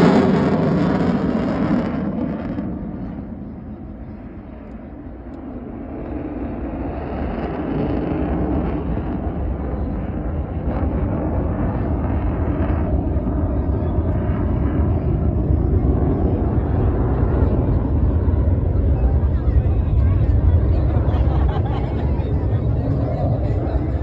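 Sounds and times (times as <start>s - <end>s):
aircraft engine rumble: 0.0s - 24.0s.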